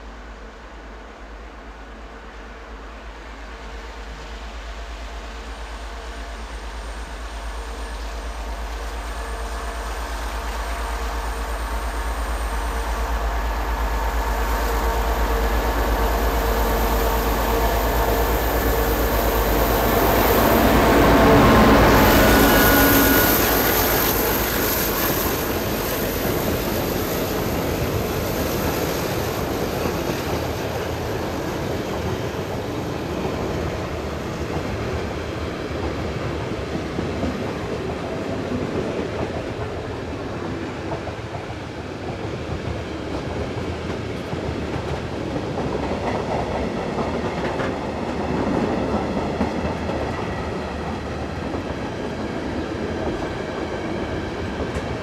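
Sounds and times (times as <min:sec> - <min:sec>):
diesel locomotive engine: 0:00.0 - 0:55.0
train wheels rumbling on rails: 0:00.0 - 0:55.0.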